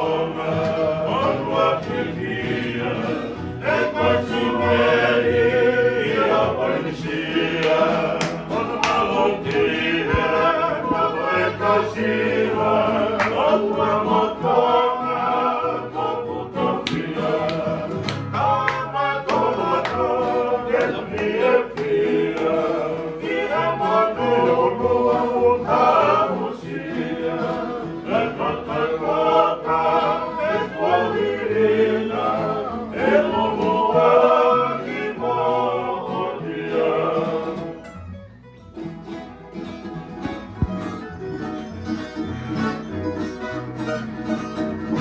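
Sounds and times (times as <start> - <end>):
group singing: 0.0 - 37.9
strummed acoustic guitars: 0.0 - 45.0
ukulele: 0.0 - 45.0.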